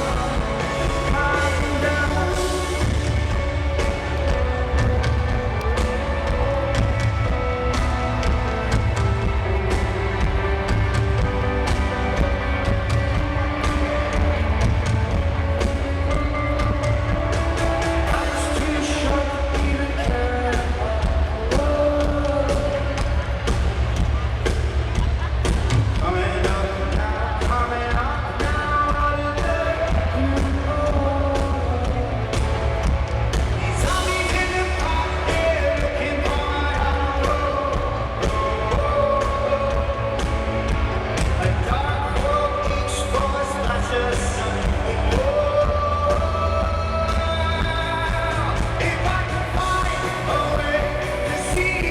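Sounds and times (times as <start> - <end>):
bass: 0.0 - 51.9
person singing: 0.0 - 51.9.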